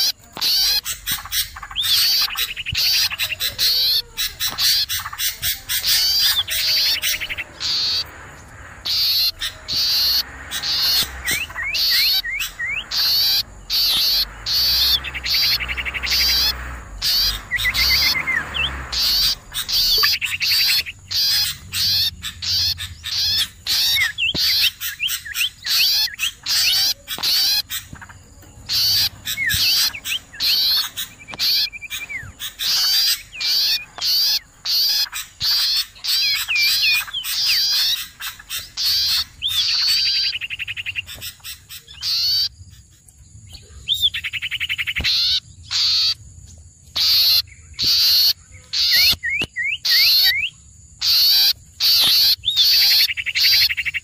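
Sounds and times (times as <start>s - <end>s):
rising whistled bird notes: 0.0s - 41.2s, 47.0s - 54.0s
songbirds chirping: 0.0s - 54.0s.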